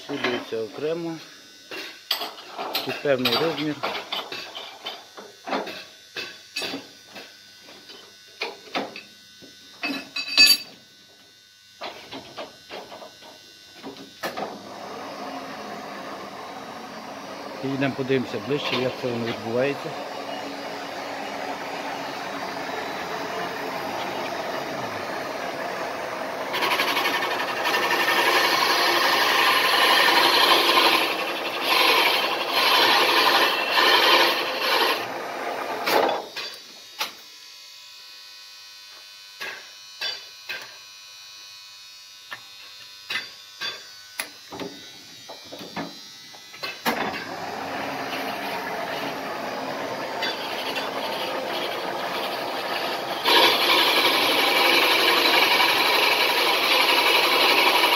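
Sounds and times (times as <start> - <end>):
boring machine cutting metal: 0.0 - 7.3, 11.8 - 37.2, 42.9 - 57.9.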